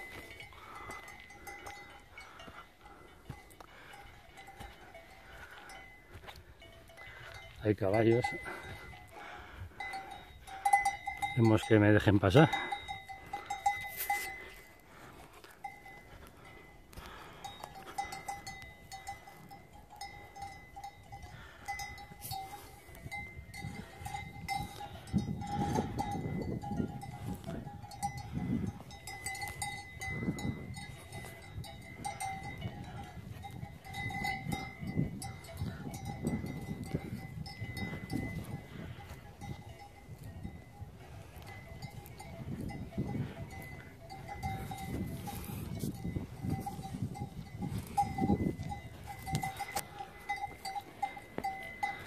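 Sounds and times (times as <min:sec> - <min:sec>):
livestock bells ringing: 0:00.0 - 0:52.0.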